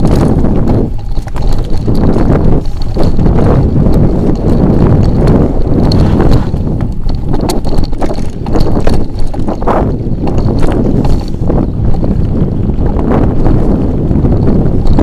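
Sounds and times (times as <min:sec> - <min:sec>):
bike vibration rumble: 0:00.0 - 0:15.0
knocks and rattles: 0:00.0 - 0:15.0
wind buffeting microphone: 0:00.0 - 0:15.0.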